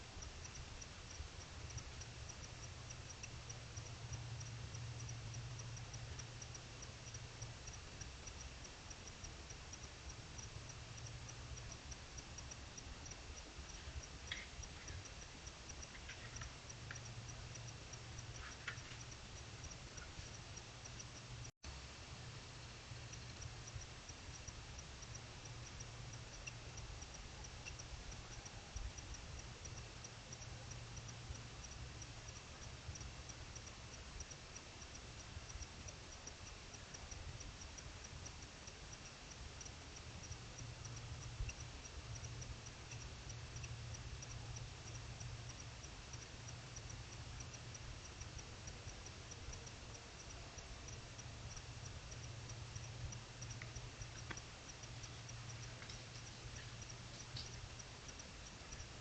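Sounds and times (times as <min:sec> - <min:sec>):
low steady hum and hiss: 0:00.0 - 0:59.0
night insect ticking: 0:00.0 - 0:59.0.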